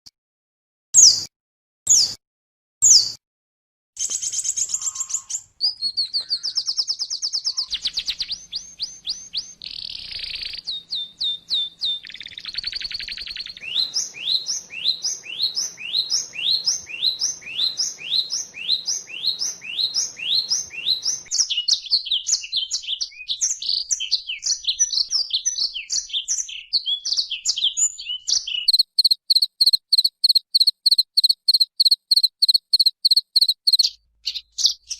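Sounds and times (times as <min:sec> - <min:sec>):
bird chirping and twittering: 0:04.0 - 0:34.9.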